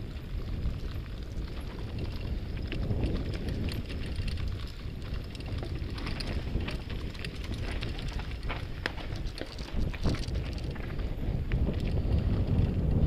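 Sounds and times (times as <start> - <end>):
bike clicks and rattles: 0.0 - 13.0
bike tyres rumbling on dirt: 0.0 - 13.0.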